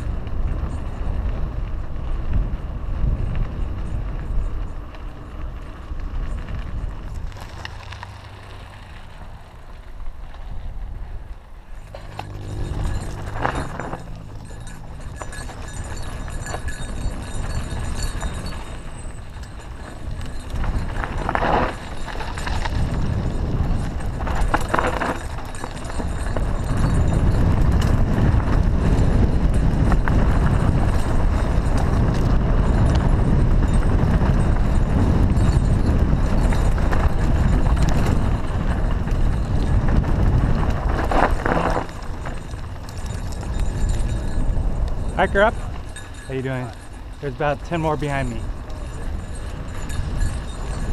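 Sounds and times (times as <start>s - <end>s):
bike rattling over bumps: 0.0s - 50.9s
bike tyres on dirt: 0.0s - 50.9s
wind rumbling on microphone: 0.0s - 50.9s.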